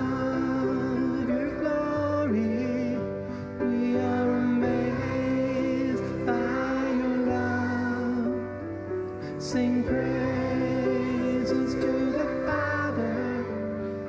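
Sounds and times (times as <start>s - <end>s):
children's choir singing: 0.0s - 8.6s, 9.4s - 14.0s
piano accompaniment: 0.0s - 14.0s.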